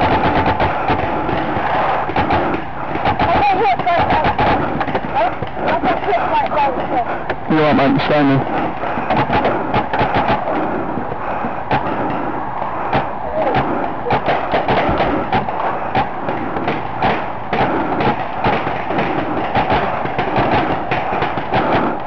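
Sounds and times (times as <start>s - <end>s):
thuds: 0.0s - 7.4s, 8.4s - 22.0s
steady noisy hiss: 0.0s - 22.0s.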